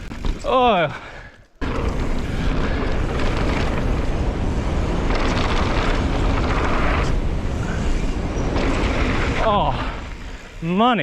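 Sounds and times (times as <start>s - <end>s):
tyre roar on dirt: 0.0s - 10.6s
bike chatter and rattle: 0.0s - 10.8s
wind rushing over microphone: 1.6s - 10.7s.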